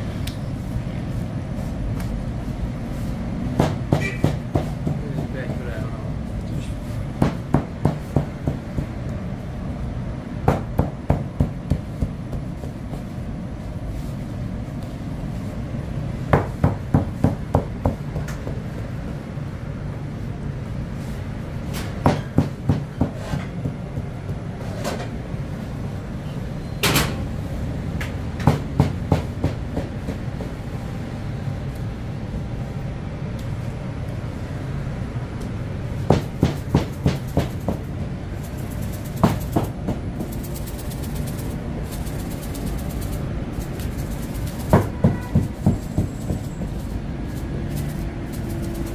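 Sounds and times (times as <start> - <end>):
bakery machine low rumble: 0.0 - 48.9.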